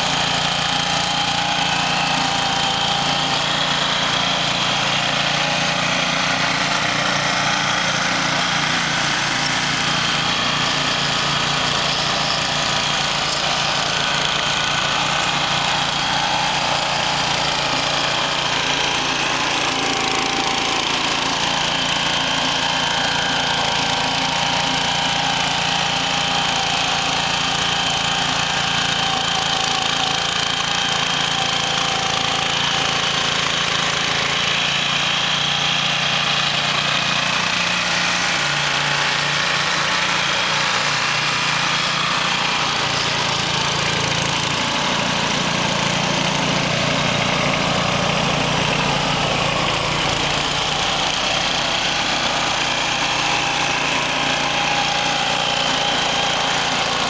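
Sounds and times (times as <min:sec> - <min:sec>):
garden tractor engine: 0:00.0 - 0:57.0
small petrol engine running: 0:00.0 - 0:57.0.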